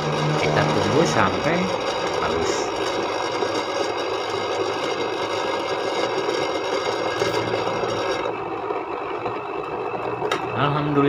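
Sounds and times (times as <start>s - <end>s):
electric blender running: 0.0s - 11.0s.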